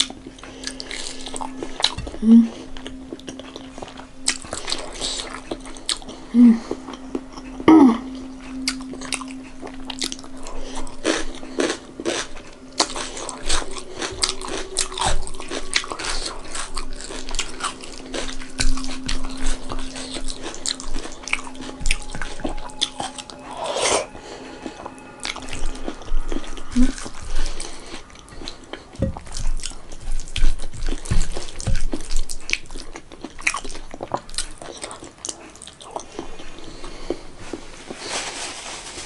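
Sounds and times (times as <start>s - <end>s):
chewing with mouth clicks: 0.0s - 38.0s
steady low hum: 0.0s - 38.2s.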